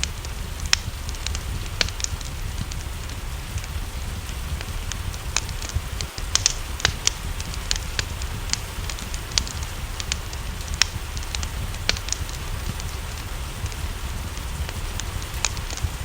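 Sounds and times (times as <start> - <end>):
low continuous rumble: 0.0 - 16.0
steady rain: 0.0 - 16.0
wood fire crackling and popping: 0.0 - 16.0.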